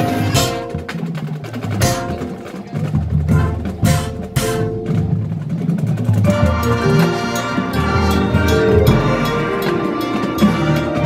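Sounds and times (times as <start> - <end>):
mallet and drum percussion: 0.0 - 11.0
marching band playing: 0.0 - 11.0.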